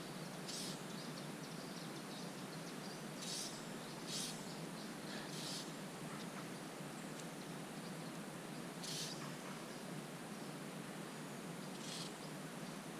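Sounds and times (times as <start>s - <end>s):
steady outdoor hiss: 0.0s - 12.9s.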